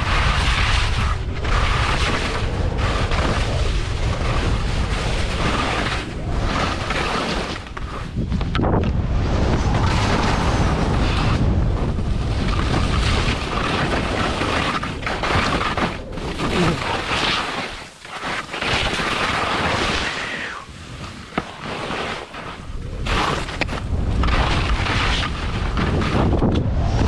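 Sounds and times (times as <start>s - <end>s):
wind buffeting microphone: 0.0s - 17.4s, 22.4s - 27.0s
skis scraping on snow: 0.0s - 27.0s.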